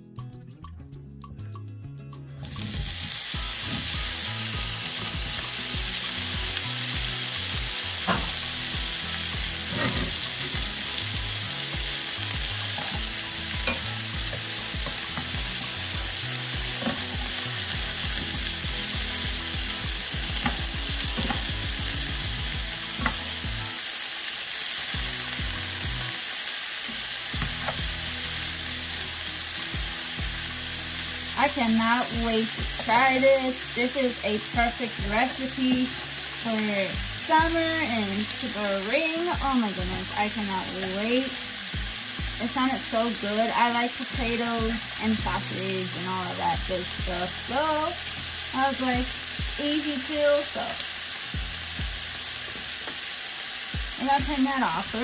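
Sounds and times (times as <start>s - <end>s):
sausage sizzling in hot oil: 2.4s - 55.0s.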